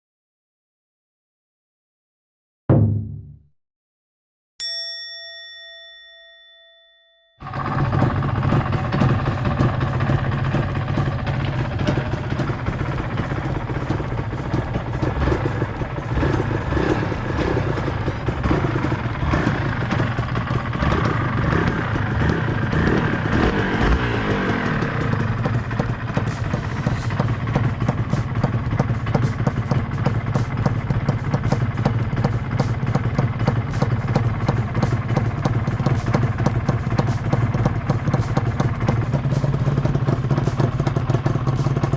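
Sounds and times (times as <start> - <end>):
two-stroke motorcycle engine running: 7.4 - 41.9.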